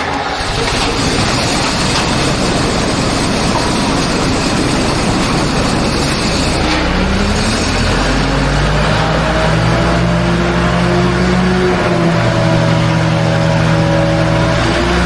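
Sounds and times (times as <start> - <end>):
diesel engine low hum: 0.0 - 15.0
wood chipper grinding wood: 0.0 - 15.0.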